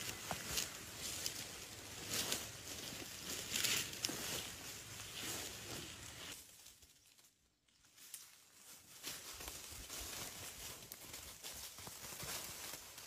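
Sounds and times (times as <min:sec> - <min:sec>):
rustling in dry leaves: 0:00.0 - 0:13.0.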